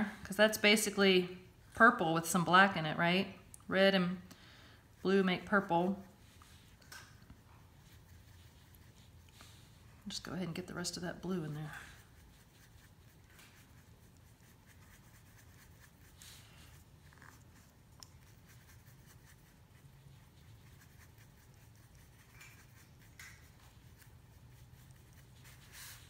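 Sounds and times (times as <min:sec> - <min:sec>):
low room hum: 0:00.0 - 0:26.0
paintbrush swishing and scraping: 0:04.8 - 0:26.0.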